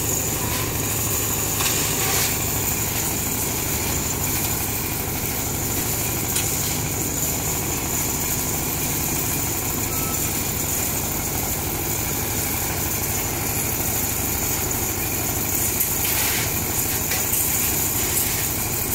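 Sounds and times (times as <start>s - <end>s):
concrete mixer engine running: 0.0s - 18.9s.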